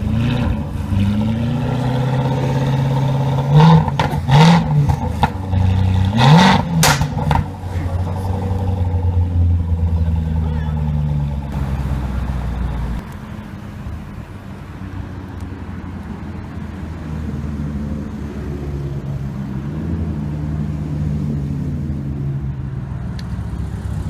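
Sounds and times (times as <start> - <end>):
car engine low drone: 0.0 - 24.0.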